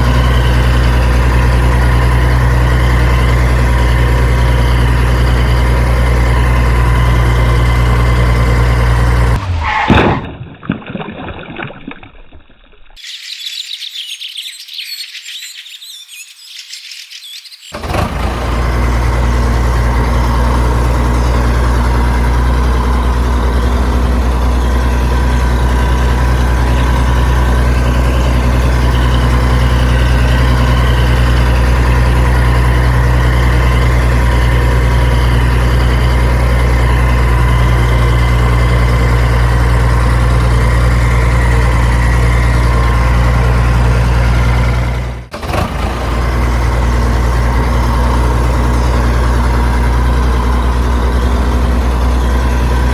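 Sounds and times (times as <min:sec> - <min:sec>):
heavy engine idling: 0:00.0 - 0:09.7, 0:17.7 - 0:52.9.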